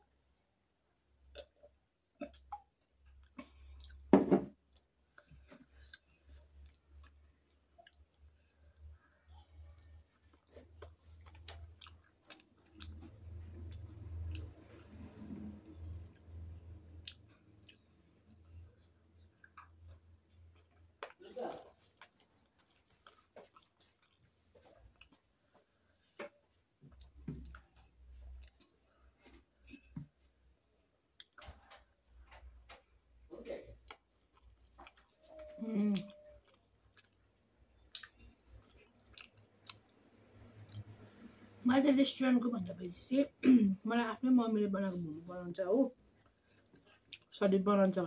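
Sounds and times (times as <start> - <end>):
person chewing food: 1.2 - 33.2, 33.8 - 41.4, 46.0 - 47.3.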